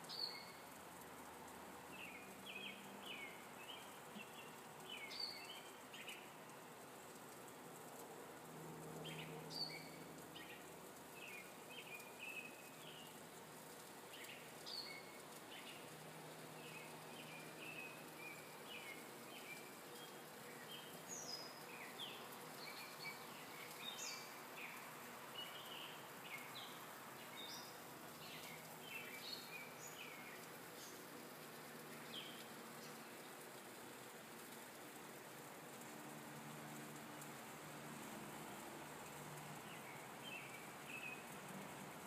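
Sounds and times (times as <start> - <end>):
songbirds chirping: 0.0 - 42.0
steady outdoor hiss: 0.0 - 42.0.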